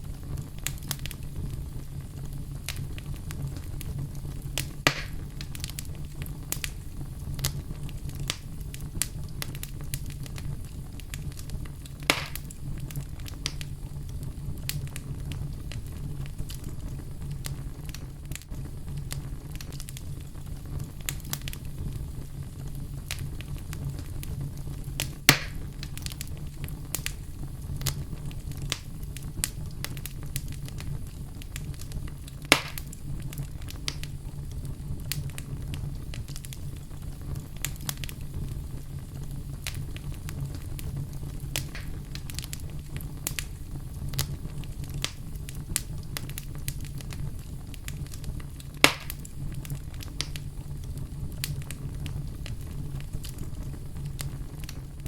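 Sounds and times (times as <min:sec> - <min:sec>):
sharp fire pops: 0:00.0 - 0:55.0
wood fire crackling: 0:00.0 - 0:55.0.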